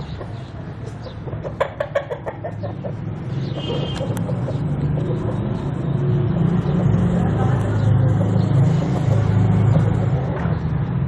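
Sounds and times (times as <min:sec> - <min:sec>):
rooster clucking: 0:00.0 - 0:05.8, 0:06.8 - 0:10.5.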